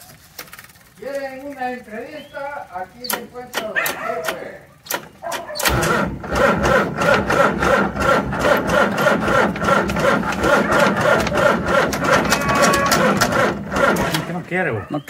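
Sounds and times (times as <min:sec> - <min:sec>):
tractor engine cranking: 0:00.0 - 0:14.6.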